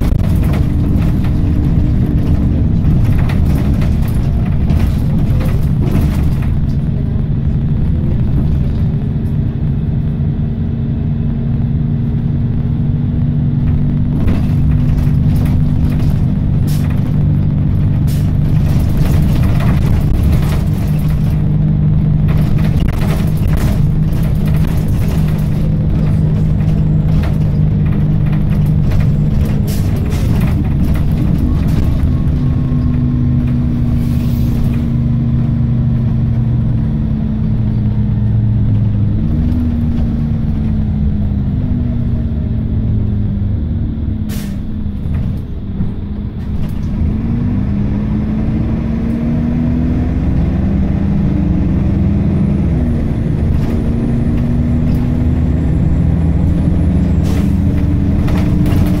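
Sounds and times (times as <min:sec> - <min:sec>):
bus engine drone: 0:00.0 - 0:59.0
knocks and rattles from bus body: 0:00.0 - 0:59.0.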